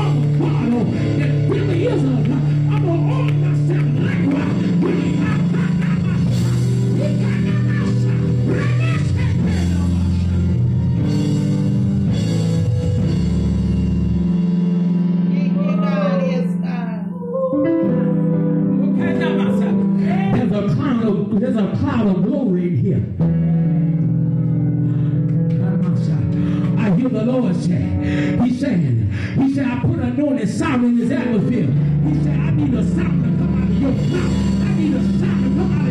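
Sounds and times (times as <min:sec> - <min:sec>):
church band music: 0:00.0 - 0:35.9.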